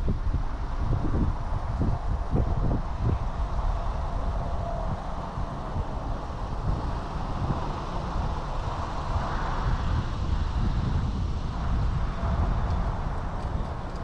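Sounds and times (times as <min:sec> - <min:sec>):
vehicle rumble: 0:00.0 - 0:14.0
wind buffeting microphone: 0:00.0 - 0:14.0.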